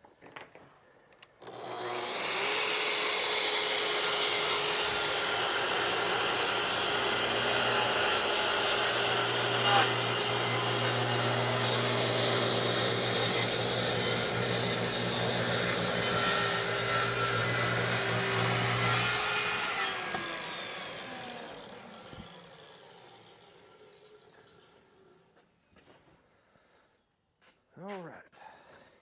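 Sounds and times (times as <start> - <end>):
electric saw cutting wood: 1.4 - 25.1.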